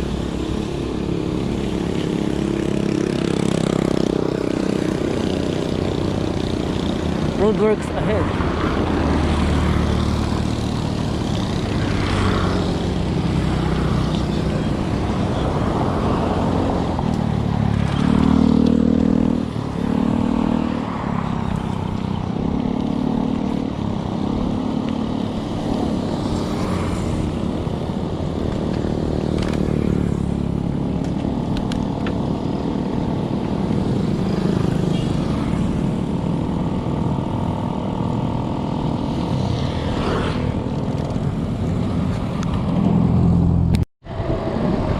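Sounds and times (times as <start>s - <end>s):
vehicle engine hum: 0.0s - 44.9s
wind and road noise rumble: 0.0s - 44.9s.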